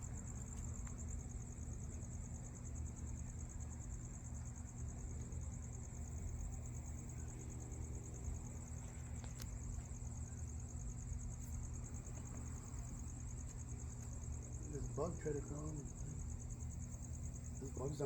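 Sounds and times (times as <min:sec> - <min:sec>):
crickets trilling: 0:00.0 - 0:18.0
low steady rumble: 0:00.0 - 0:18.0.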